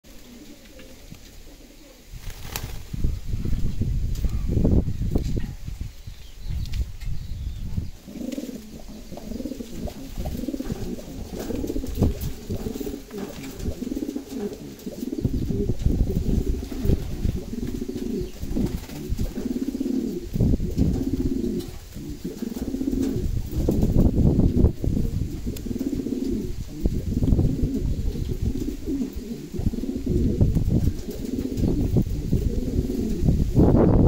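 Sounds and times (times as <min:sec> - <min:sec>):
pigeons cooing: 0:00.1 - 0:02.2, 0:03.0 - 0:05.6, 0:07.0 - 0:34.0.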